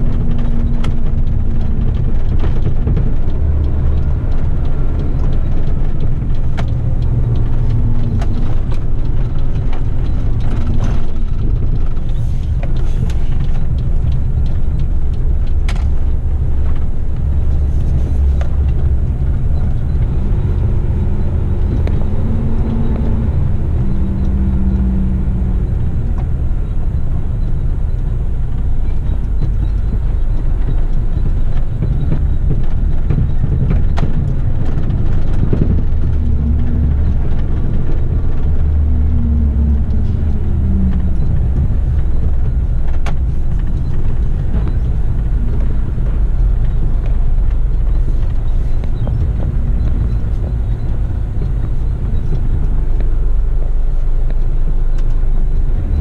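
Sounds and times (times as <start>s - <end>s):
cab clicks and rattles: 0.0s - 56.0s
diesel truck engine: 0.0s - 56.0s
road noise: 0.0s - 56.0s.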